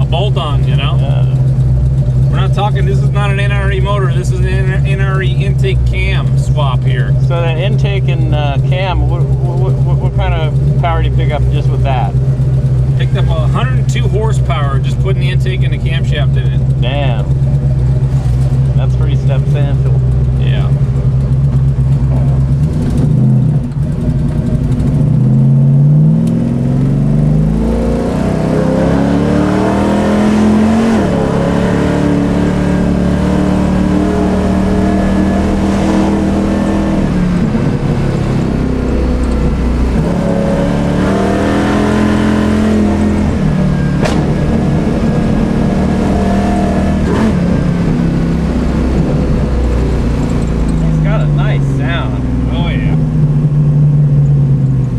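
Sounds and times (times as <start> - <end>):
car engine accelerating: 0.0 - 54.9.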